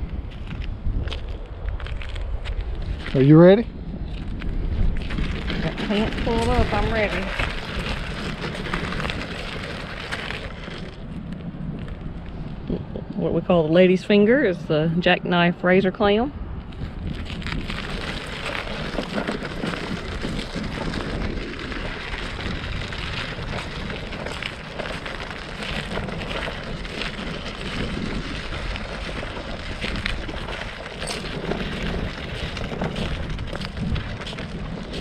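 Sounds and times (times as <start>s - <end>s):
footsteps crunching on shells: 0.0s - 13.0s, 16.6s - 35.0s
wind rumbling on microphone: 0.0s - 35.0s.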